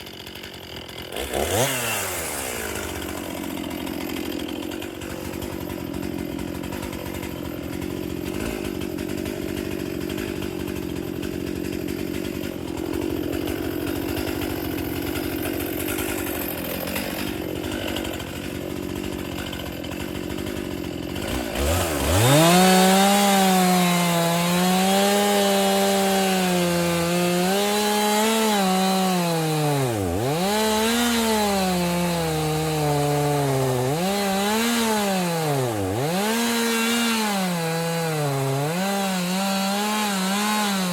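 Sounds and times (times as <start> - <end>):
chainsaw running under load: 0.0 - 40.9.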